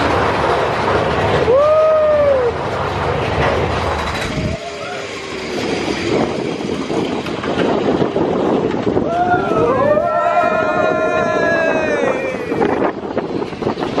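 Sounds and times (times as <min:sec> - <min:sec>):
roller coaster rattling on track: 0:00.0 - 0:14.0.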